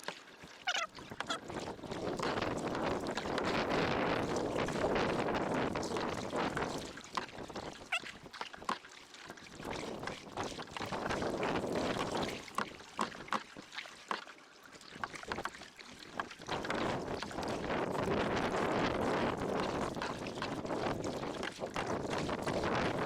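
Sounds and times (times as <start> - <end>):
paddle splashes and drips: 0.0 - 23.0.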